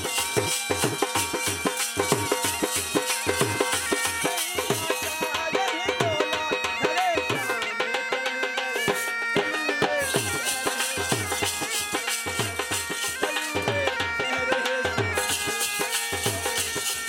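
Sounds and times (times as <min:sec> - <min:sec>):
bagpipe melody over drone: 0:00.0 - 0:17.0
drum beating rhythm: 0:00.0 - 0:17.0.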